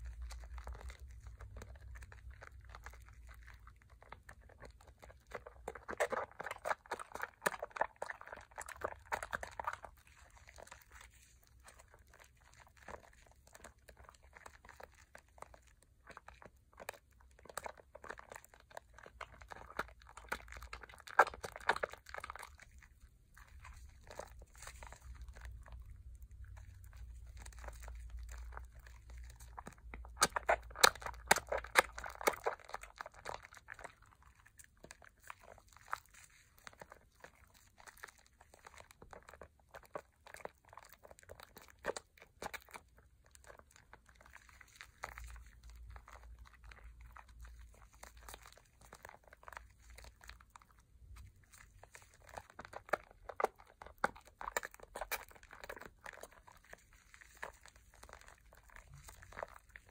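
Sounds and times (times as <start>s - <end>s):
soap lather squishing in hands: 0.0s - 59.9s.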